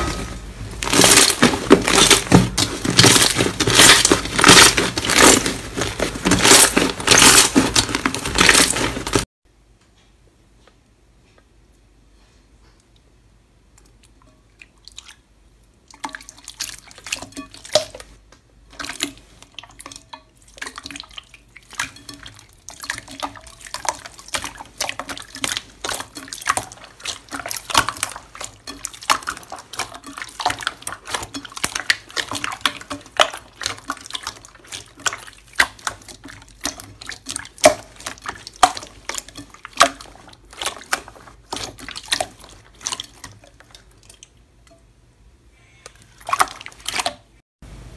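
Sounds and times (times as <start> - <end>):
wet slime squelching: 0.0 - 9.3, 13.8 - 44.8, 45.7 - 47.4.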